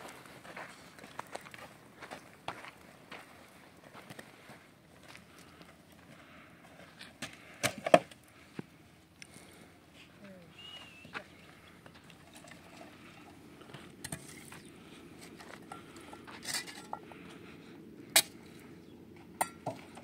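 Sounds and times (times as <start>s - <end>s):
steady low background noise: 0.0s - 20.0s.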